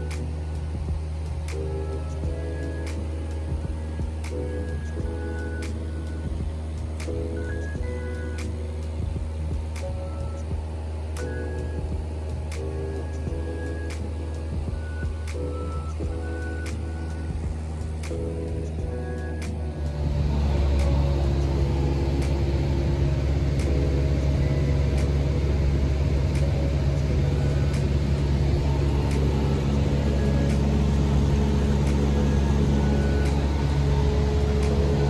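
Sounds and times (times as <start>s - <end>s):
light aircraft engine drone: 0.0s - 35.0s.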